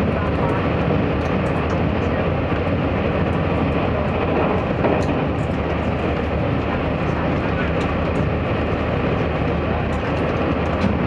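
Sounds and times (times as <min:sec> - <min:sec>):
diesel railcar running in tunnel: 0:00.0 - 0:11.0.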